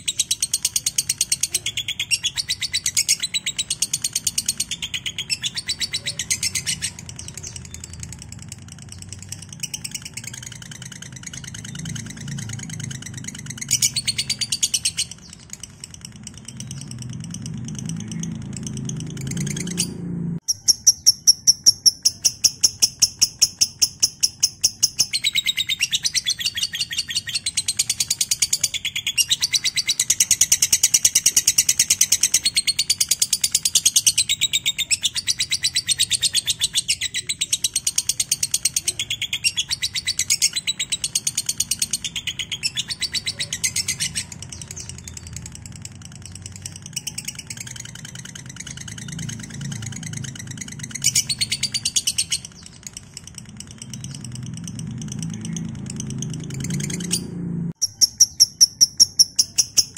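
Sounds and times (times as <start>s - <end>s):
lovebird rapid trill: 0.0s - 59.9s.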